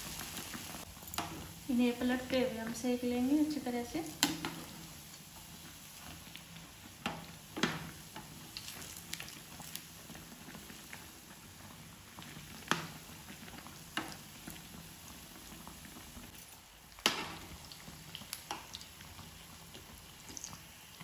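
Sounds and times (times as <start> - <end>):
oil sizzling and bubbling: 0.0 - 21.0.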